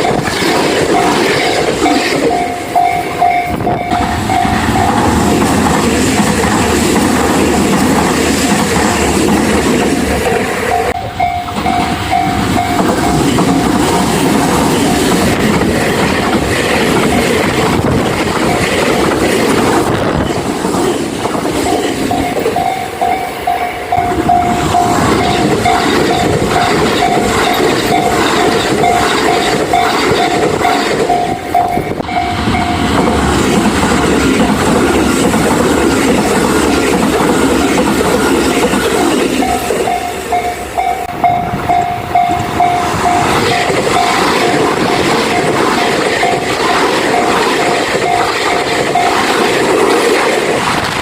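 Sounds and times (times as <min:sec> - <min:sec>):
crossing warning bell ringing: 0:00.0 - 0:49.7
train wheels clattering on rails: 0:00.0 - 0:51.0.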